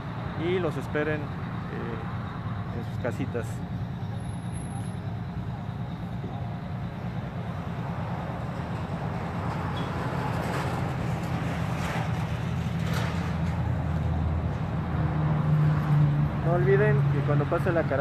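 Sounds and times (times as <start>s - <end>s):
vehicle engines idling: 0.0s - 18.0s.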